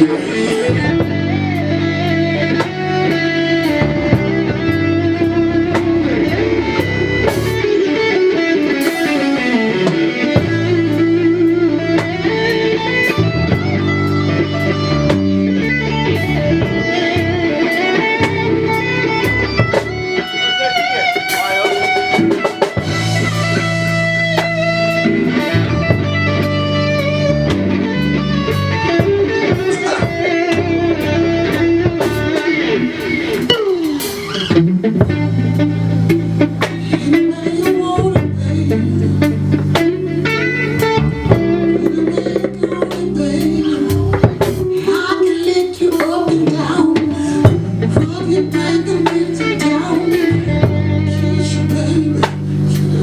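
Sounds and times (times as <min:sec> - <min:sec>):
bass: 0:00.0 - 0:53.0
drums: 0:00.0 - 0:53.0
electric guitar lead: 0:00.0 - 0:53.0
keyboard chords: 0:00.0 - 0:53.0.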